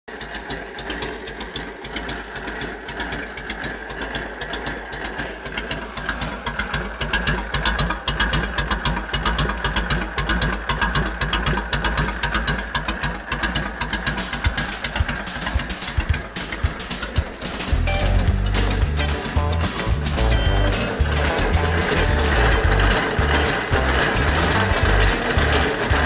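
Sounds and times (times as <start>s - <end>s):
motorcycle engine idling: 0.1s - 26.0s.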